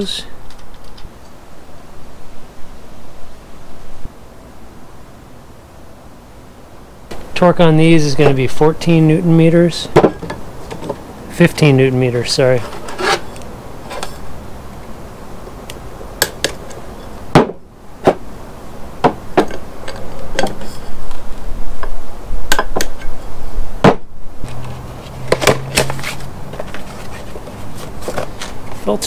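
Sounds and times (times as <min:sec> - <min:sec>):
low rumbling background noise: 0:00.0 - 0:29.0.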